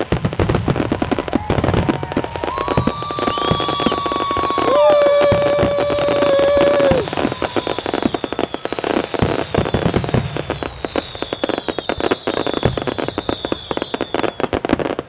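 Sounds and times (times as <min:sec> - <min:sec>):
falling firework whistles: 0:00.0 - 0:15.0
fireworks crackling and popping: 0:00.0 - 0:15.0.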